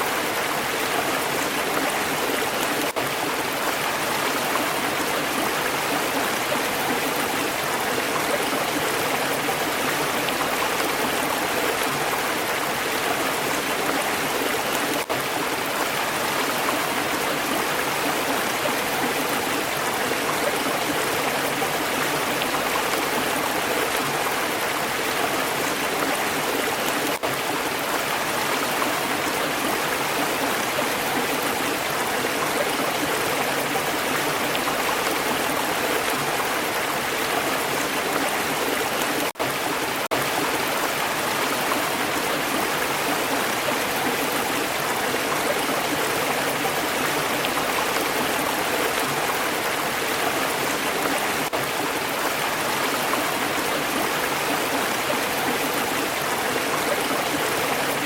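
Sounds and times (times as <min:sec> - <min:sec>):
stream water flowing: 0:00.0 - 0:58.0.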